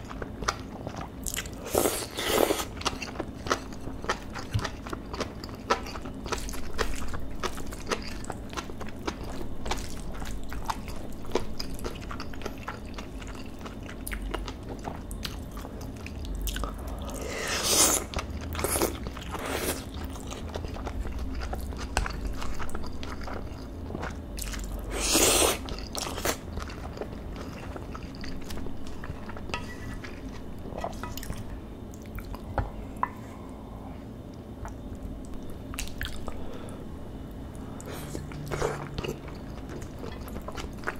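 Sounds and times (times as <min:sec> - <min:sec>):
close chewing and mouth sounds: 0:00.0 - 0:33.2, 0:34.3 - 0:36.8, 0:37.4 - 0:40.9.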